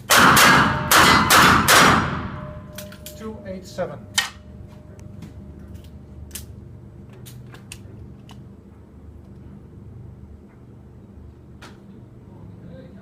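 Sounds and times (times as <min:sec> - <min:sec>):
low background rumble: 0:00.1 - 0:13.0.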